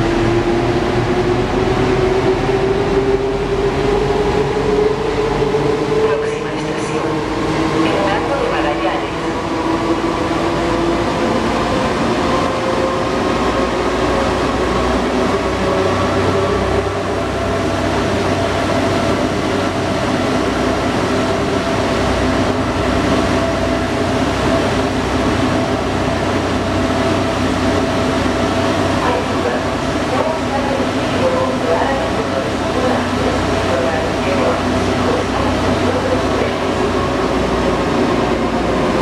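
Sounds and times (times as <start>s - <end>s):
metro train rumble inside car: 0.0s - 39.0s.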